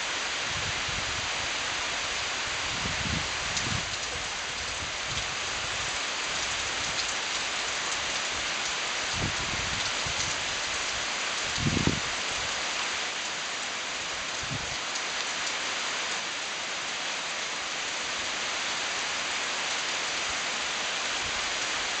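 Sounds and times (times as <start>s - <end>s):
heavy rain hiss: 0.0s - 22.0s.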